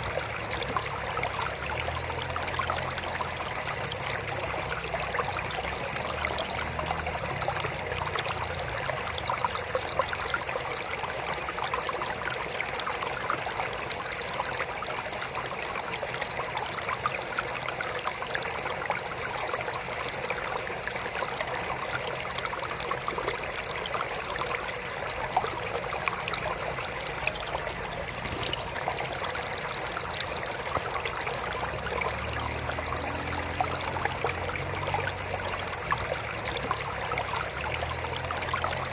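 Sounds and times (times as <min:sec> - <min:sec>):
small water splashes: 0:00.0 - 0:38.9
water trickling: 0:00.0 - 0:38.9.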